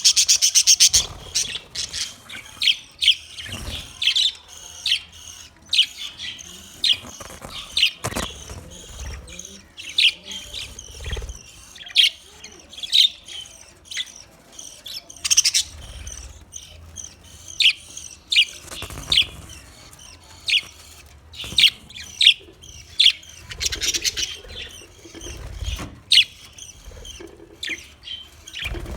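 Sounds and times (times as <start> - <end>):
budgerigars chirping: 0.0 - 28.9
budgerigars warbling: 0.0 - 28.9.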